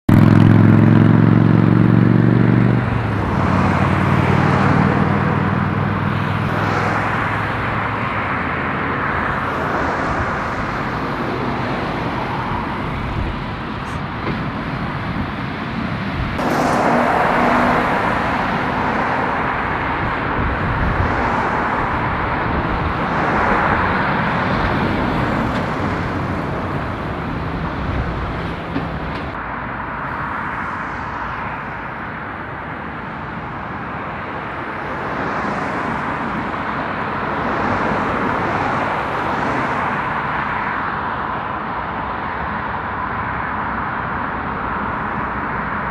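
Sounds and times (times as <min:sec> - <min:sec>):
lorry engine passing: 0:00.1 - 0:41.0
vehicles passing: 0:00.1 - 0:45.9.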